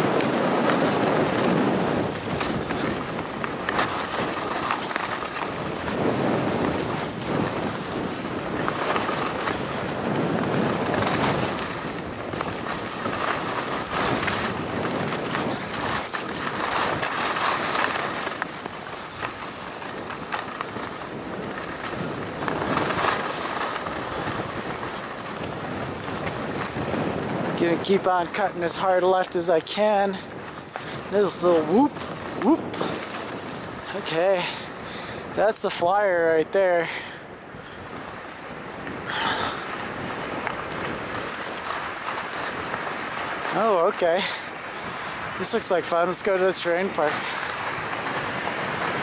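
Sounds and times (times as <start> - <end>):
skis swishing through snow: 0.0 - 49.0
wind on microphone: 0.0 - 49.0.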